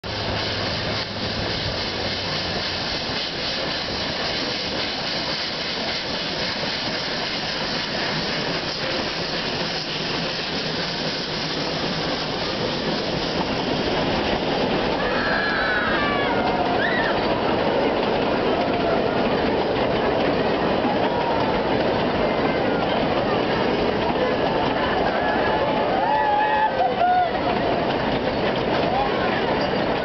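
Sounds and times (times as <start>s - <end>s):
carriages rolling past: 0.0s - 30.0s
steam locomotive passing: 0.0s - 30.0s.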